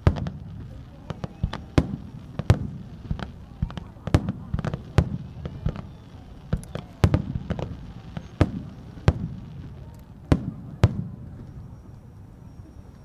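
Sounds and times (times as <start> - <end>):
firework shells booming: 0.0 - 11.4
faint firework pops: 0.0 - 11.6.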